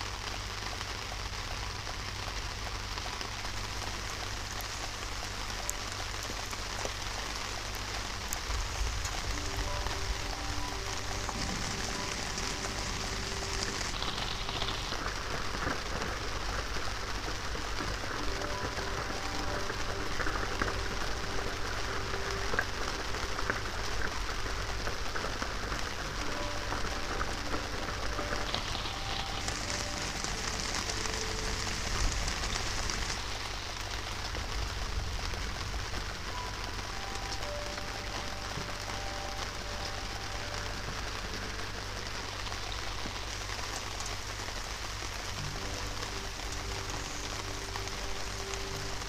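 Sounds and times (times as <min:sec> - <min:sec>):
rain splashing into puddles: 0:00.0 - 0:49.0.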